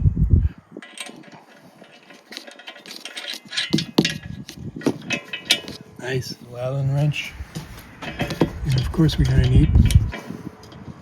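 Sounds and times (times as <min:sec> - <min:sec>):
metal tools clinking and rattling: 0:00.7 - 0:10.8.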